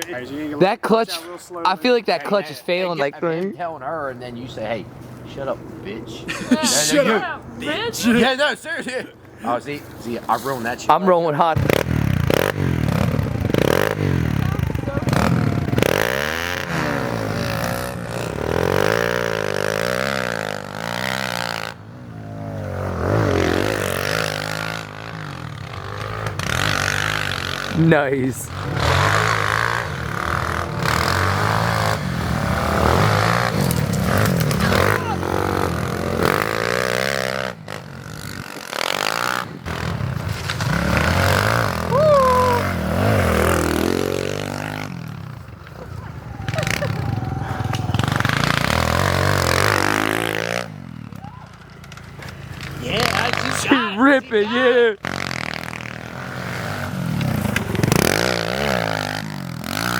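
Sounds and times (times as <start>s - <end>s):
pit bike engine revving: 11.5s - 59.9s.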